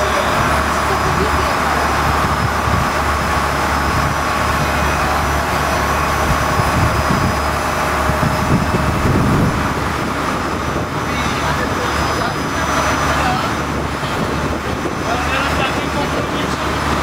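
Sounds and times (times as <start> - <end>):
boat engines droning: 0.0 - 17.0
water rushing in wake: 0.0 - 17.0.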